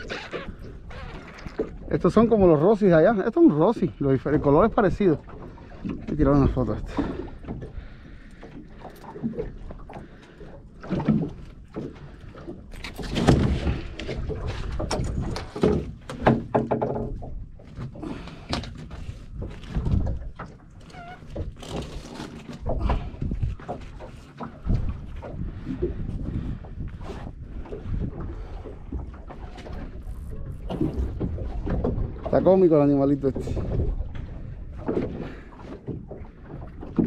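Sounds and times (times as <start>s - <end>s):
knocks and thumps on boat: 0.0s - 37.0s.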